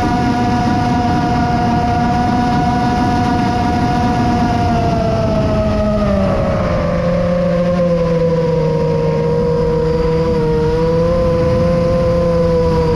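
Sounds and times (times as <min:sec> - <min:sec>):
drone motors whining: 0:00.0 - 0:12.9
wind noise on microphone: 0:00.0 - 0:12.9.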